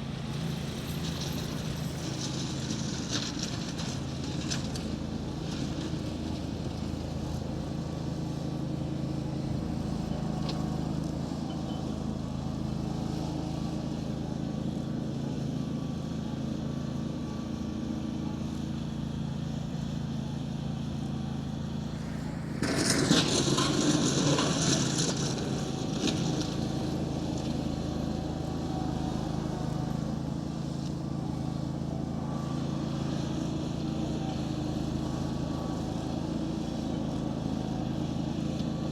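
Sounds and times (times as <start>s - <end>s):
steady engine-like drone: 0.0s - 38.9s.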